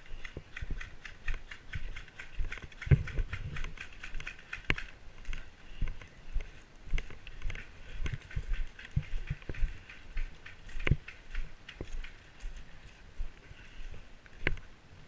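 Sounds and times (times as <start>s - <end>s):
footsteps: 0.0s - 14.7s.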